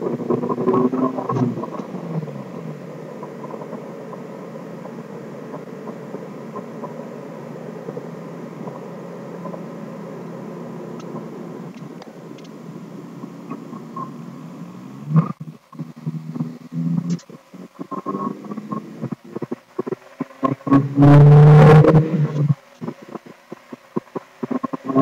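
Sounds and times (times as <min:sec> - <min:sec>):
car engine revving down and idling: 0:00.0 - 0:25.0.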